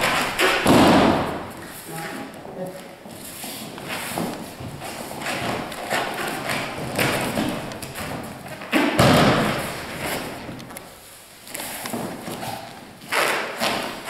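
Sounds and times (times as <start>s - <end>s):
bare feet on mat: 0.0s - 14.0s.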